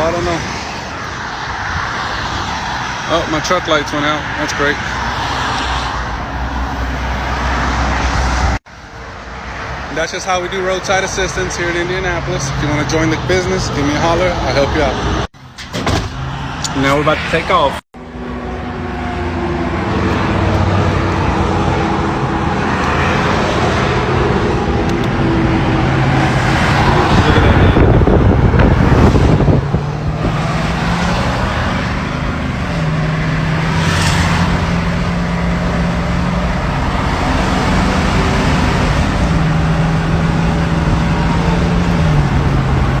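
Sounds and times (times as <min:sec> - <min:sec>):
road and traffic noise: 0:00.0 - 0:43.0.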